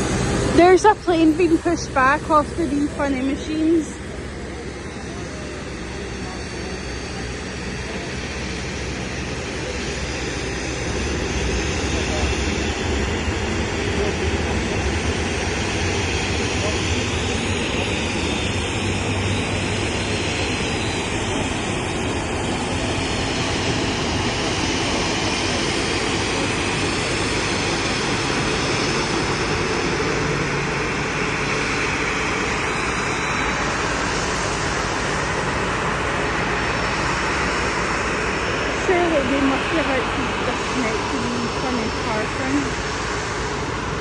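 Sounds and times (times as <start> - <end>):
jet engines idling: 0.0 - 44.0.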